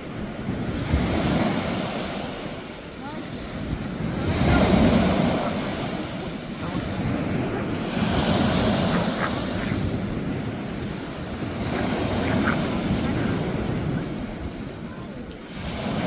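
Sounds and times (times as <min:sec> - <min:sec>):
small waves washing onto beach: 0:00.0 - 0:16.0
wind rumbling on microphone: 0:00.0 - 0:16.0.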